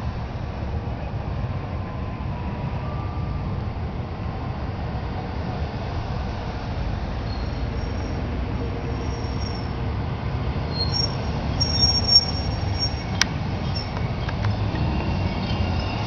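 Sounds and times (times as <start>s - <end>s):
vehicles rumbling past: 0.0s - 16.0s.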